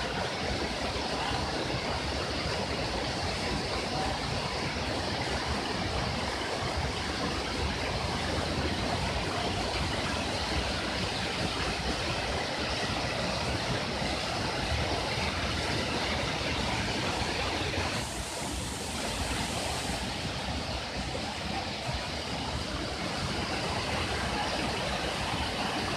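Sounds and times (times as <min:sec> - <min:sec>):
waterfall splashing into pool: 0:00.0 - 0:25.9.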